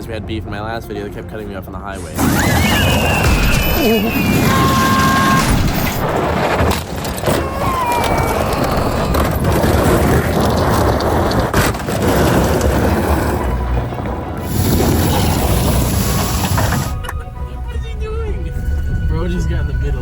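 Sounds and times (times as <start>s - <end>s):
vehicle rumbling: 1.8s - 20.0s.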